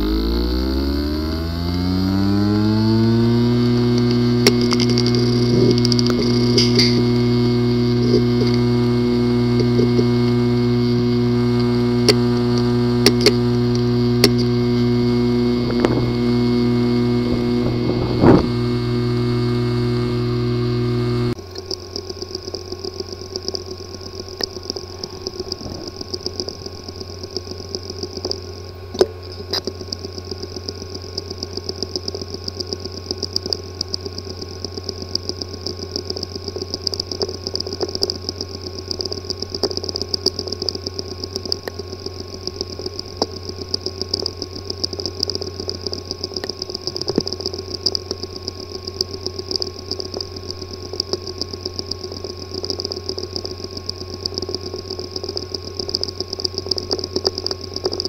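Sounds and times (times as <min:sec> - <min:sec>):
hard drive clicking: 0:00.0 - 0:58.0
hard drive spinning whir: 0:00.0 - 0:58.0.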